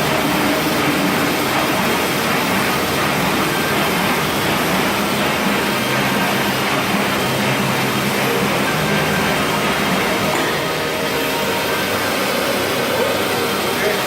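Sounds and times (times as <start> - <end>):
band saw cutting machine running: 0.0 - 14.0.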